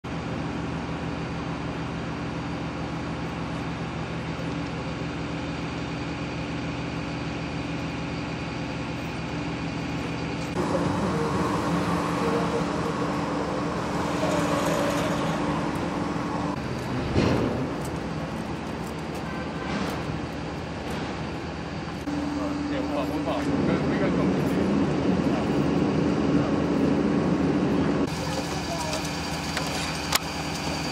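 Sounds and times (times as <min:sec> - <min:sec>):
street traffic: 0:00.0 - 0:30.9
low engine hum: 0:00.1 - 0:30.9.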